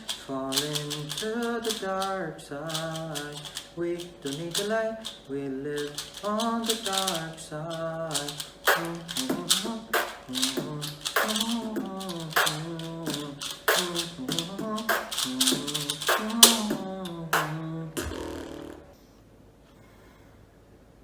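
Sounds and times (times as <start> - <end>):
beatboxing: 0.0 - 19.0
wordless vocal melody: 0.0 - 19.0.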